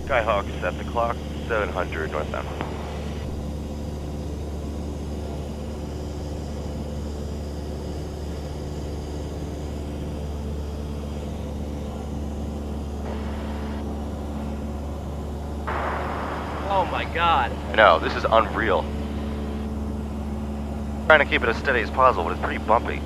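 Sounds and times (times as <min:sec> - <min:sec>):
aircraft engine and propeller drone: 0:00.0 - 0:23.0.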